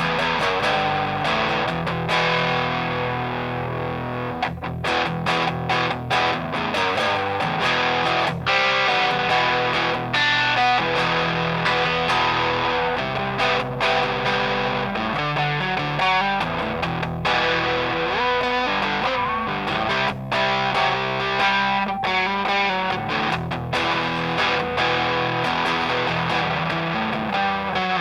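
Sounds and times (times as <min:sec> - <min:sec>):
overdriven electric guitar chords: 0:00.0 - 0:28.0
picked guitar single-note runs: 0:00.0 - 0:28.0.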